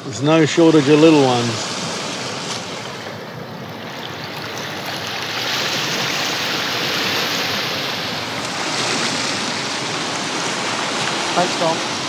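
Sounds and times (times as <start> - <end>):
sea water surging over rocks: 0.0 - 12.0.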